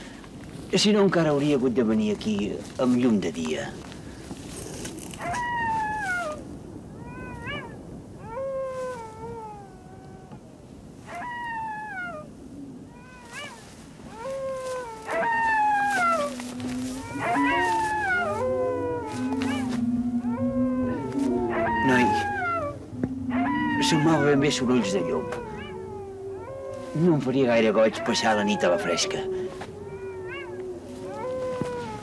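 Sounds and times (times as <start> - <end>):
wolves howling: 5.0 - 10.5, 11.1 - 32.0.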